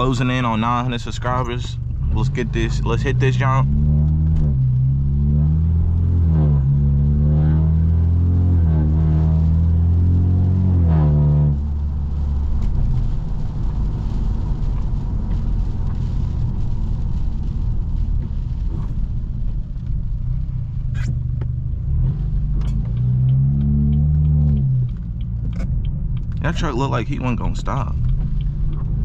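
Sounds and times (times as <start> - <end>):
car exhaust: 0.0 - 29.0
road and tyre rumble: 0.0 - 29.0.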